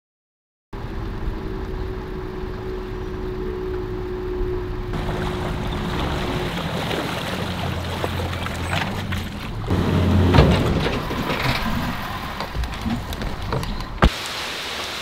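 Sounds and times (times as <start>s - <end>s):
outboard motor running: 0.8s - 13.7s.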